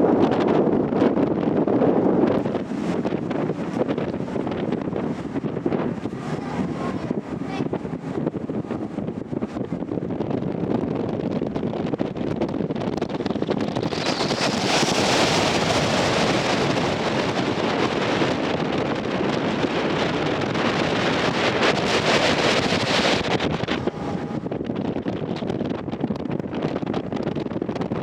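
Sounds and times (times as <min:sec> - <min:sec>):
wind buffeting microphone: 0:00.0 - 0:28.0
ship rushing through water: 0:00.2 - 0:25.0.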